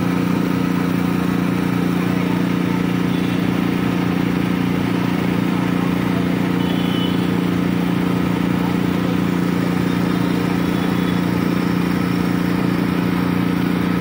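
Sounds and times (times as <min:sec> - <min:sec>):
small petrol engine running: 0:00.0 - 0:14.0.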